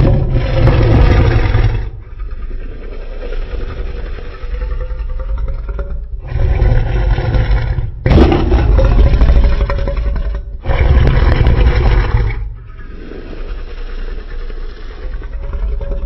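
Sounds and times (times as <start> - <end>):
deep monster roars: 0.0 - 16.0.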